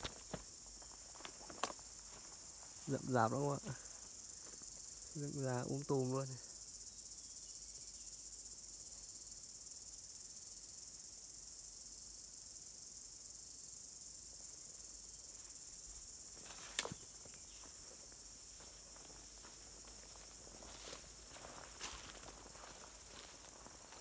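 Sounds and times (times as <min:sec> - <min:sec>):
insects buzzing chorus: 0:00.0 - 0:24.0.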